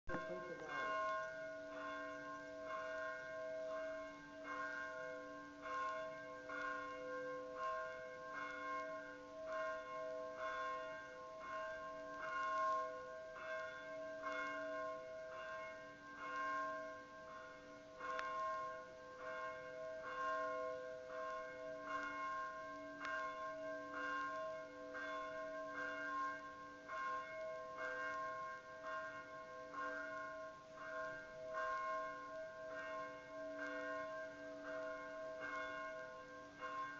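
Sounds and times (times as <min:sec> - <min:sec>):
church bells ringing: 0:00.1 - 0:36.9.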